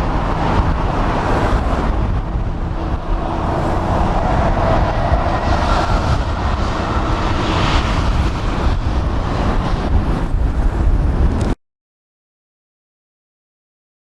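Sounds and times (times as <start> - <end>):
jet engines rumbling: 0.0 - 11.6
wind buffeting microphone: 0.0 - 11.6.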